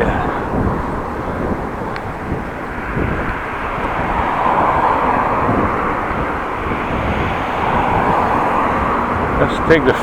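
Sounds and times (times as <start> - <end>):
road noise: 0.0 - 10.0
wind on microphone: 0.0 - 10.0.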